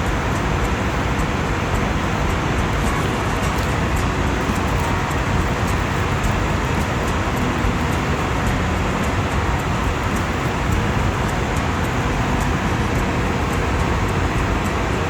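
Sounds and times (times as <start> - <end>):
aircraft engines humming: 0.0 - 15.0
airflow over fuselage: 0.0 - 15.0.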